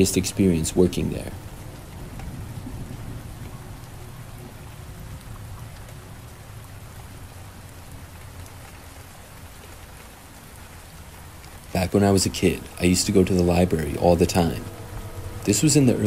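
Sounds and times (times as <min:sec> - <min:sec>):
low thunder rumble: 0:00.0 - 0:09.6, 0:10.4 - 0:16.0
steady rain falling: 0:00.0 - 0:16.0.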